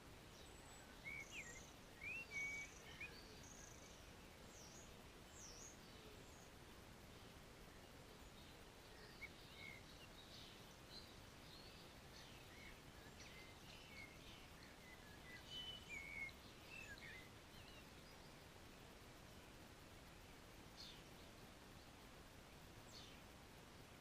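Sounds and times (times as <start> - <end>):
songbirds chirping and whistling: 0.0 - 22.0
low background hiss: 0.0 - 24.0.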